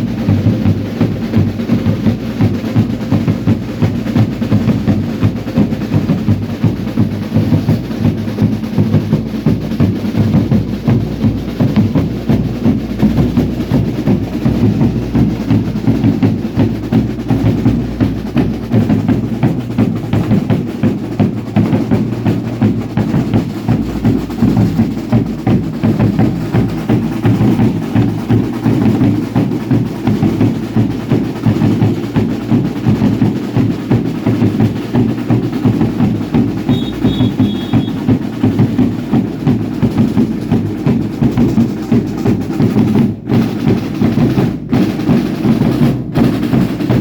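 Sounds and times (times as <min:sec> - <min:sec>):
drums beating a driving rhythm: 0:00.0 - 0:47.0.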